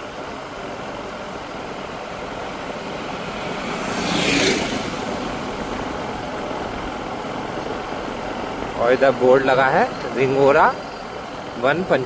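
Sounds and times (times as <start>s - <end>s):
loud rush of passing vehicle: 0.0s - 12.0s
vehicle engine and road noise: 0.0s - 12.0s.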